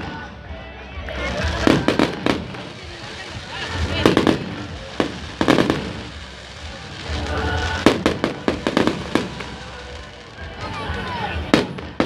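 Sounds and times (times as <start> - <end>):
crackling firework reports: 0.0 - 12.0
firework bangs: 0.0 - 12.0.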